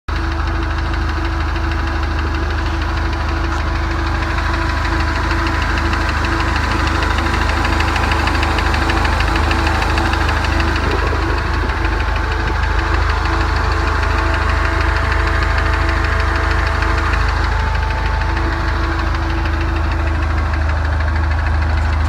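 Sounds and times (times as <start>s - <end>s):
car engine running: 0.0s - 22.0s
fast regular knocking tick: 0.1s - 22.0s.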